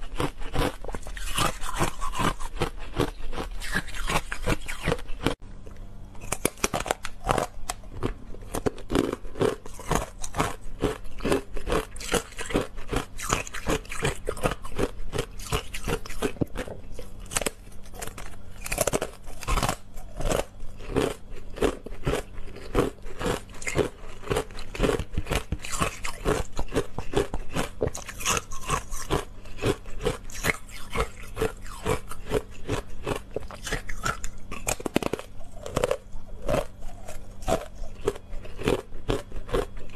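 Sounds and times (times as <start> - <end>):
crunching and chewing ice bar: 0.0 - 39.9.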